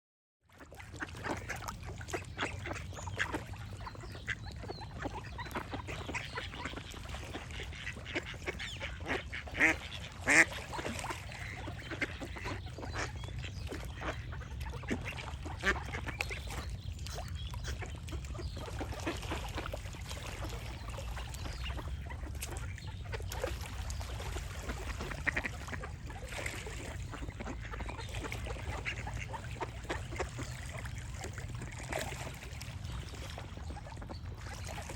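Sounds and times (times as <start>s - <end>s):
ducks quacking: 0.6s - 34.9s.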